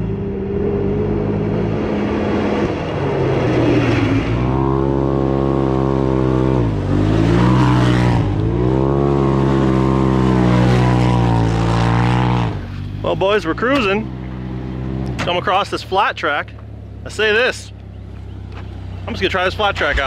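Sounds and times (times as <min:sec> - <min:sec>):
engine pulling hard: 0:00.0 - 0:20.0
tyres rushing on dirt: 0:02.2 - 0:20.0.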